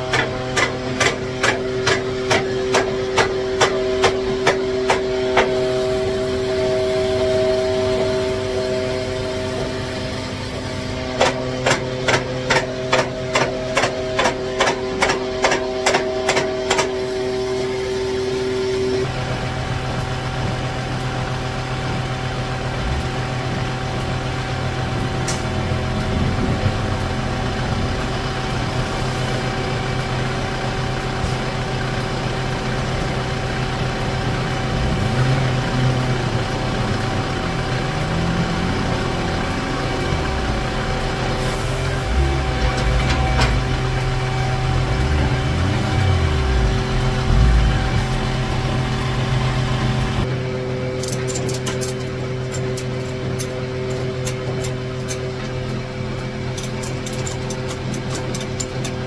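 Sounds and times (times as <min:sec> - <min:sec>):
engine humming: 0:00.0 - 0:59.0
hydraulics humming: 0:00.0 - 0:59.0.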